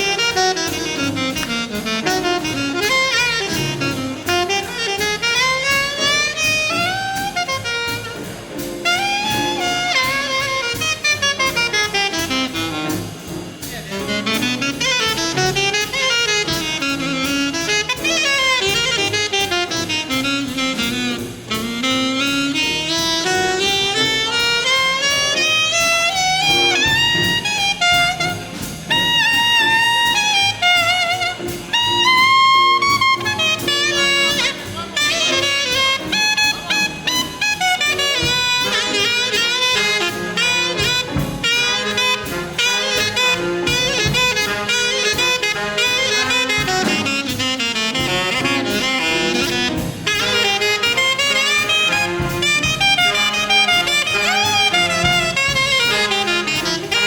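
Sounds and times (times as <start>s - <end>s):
big band playing swing jazz: 0.0s - 57.0s
saxophone soloing in quick runs: 0.0s - 57.0s.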